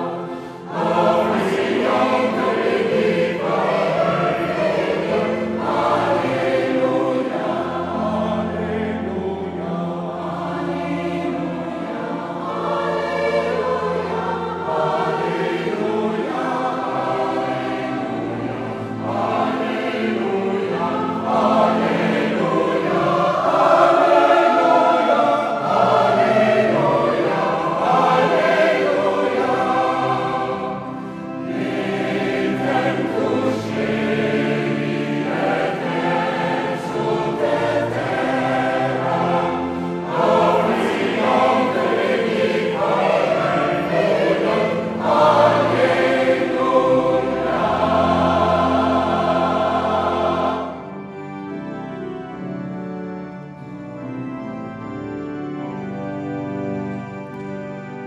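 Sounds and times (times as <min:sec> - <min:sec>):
mixed choir singing: 0:00.0 - 0:51.6.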